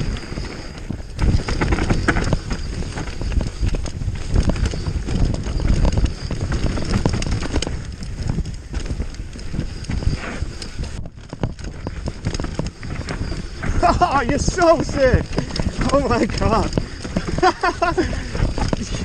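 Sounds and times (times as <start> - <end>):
bike knocks and rattles: 0.0 - 19.0
tyres rumbling on dirt: 0.0 - 19.0
wind buffeting microphone: 0.0 - 19.0.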